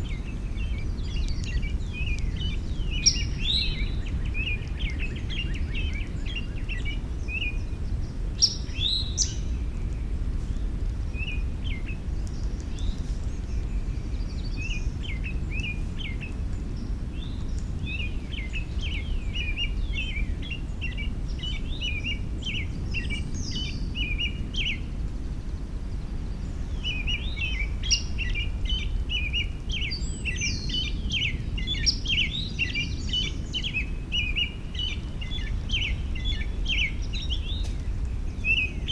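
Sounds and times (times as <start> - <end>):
low background rumble: 0.0 - 38.9
songbirds chirping and singing: 0.0 - 38.9.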